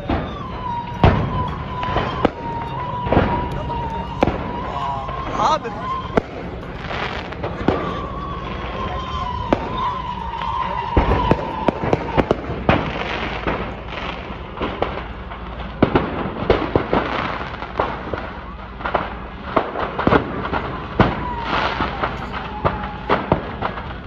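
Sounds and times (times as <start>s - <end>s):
fireworks cracking and popping: 0.0s - 24.0s.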